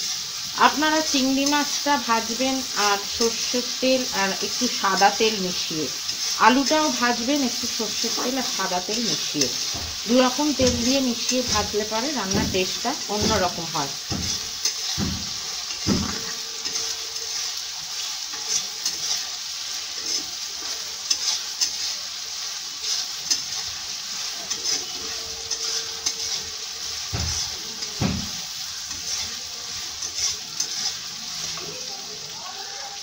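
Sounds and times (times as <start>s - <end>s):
onions sizzling in hot oil: 0.0s - 33.0s
spatula scraping and knocking pan: 1.0s - 17.5s, 18.2s - 31.7s.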